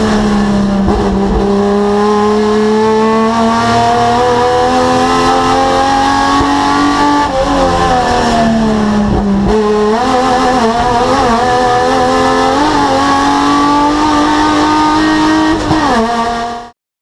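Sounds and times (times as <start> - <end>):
race car engine at high revs: 0.0 - 16.8.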